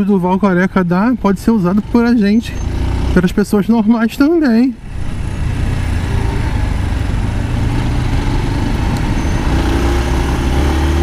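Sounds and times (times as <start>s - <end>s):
wind and road noise: 0.0s - 11.0s
motorcycle engine running: 0.3s - 11.0s.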